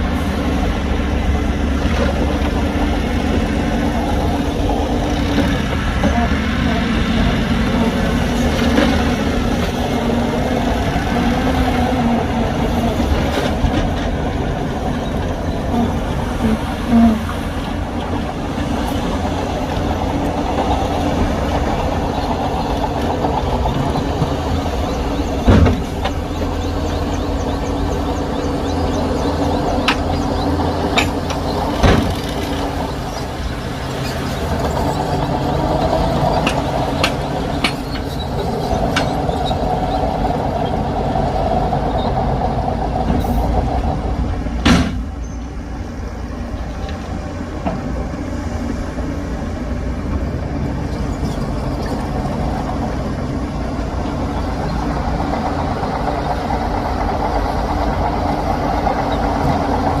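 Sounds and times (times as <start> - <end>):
diesel machinery running: 0.0 - 60.0.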